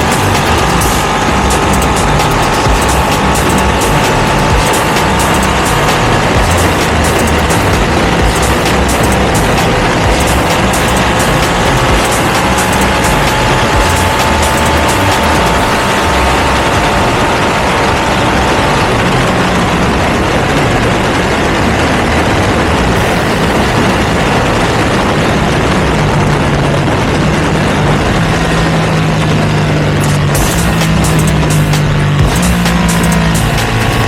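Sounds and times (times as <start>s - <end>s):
dense rushing noise: 0.0s - 34.0s
motorcycle engine running: 0.0s - 34.0s.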